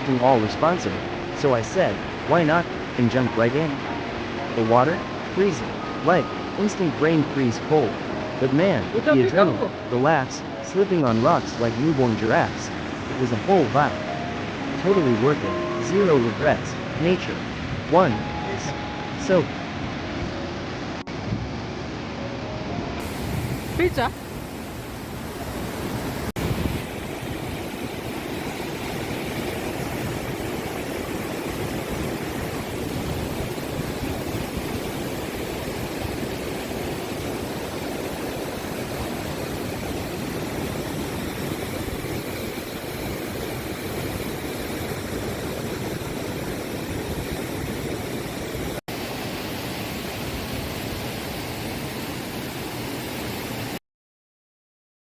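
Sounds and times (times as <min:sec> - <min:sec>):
waterfall rushing: 0:00.0 - 0:21.0, 0:23.0 - 0:53.8.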